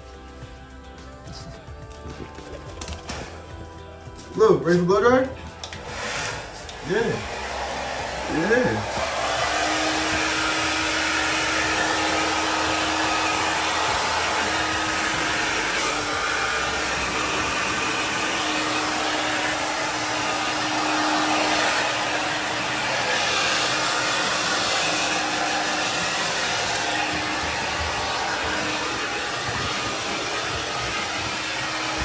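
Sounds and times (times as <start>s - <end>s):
hair dryer blowing: 2.1s - 32.0s.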